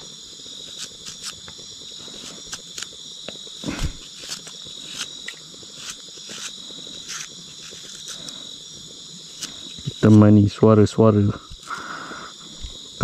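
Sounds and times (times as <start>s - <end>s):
night insect chorus chirring: 0.0s - 13.0s.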